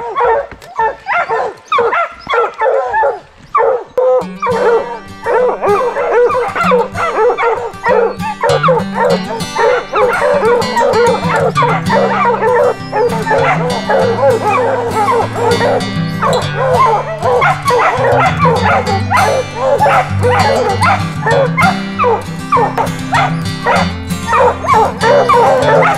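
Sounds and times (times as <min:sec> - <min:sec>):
hounds barking and baying: 0:00.0 - 0:25.9
background music: 0:03.6 - 0:25.9.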